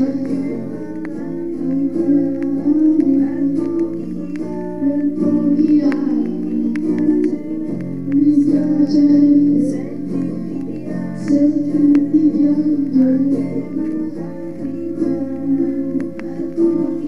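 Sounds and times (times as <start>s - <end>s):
plucked guitar notes: 0.0s - 17.0s
song from vinyl record: 0.0s - 17.0s.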